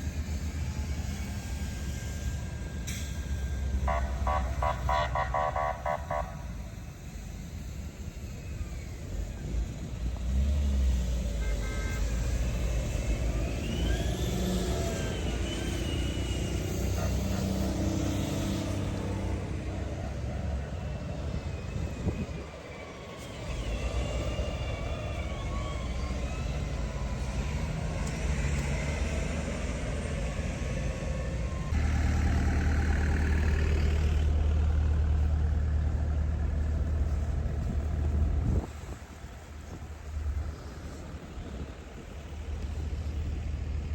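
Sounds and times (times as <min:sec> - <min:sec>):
heavy vehicle engines running: 0:00.0 - 0:43.9.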